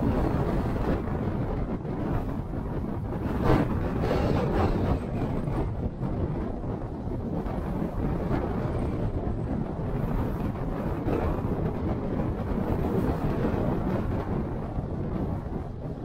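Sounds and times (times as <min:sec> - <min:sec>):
tyre and wind noise: 0:00.0 - 0:16.0.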